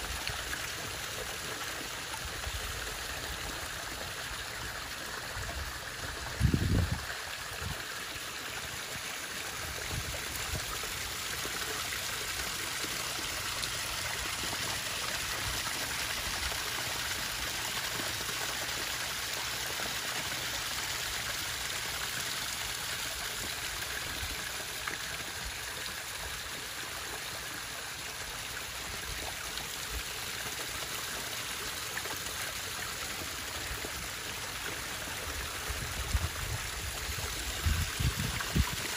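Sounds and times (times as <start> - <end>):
trickling water: 0.0 - 38.9.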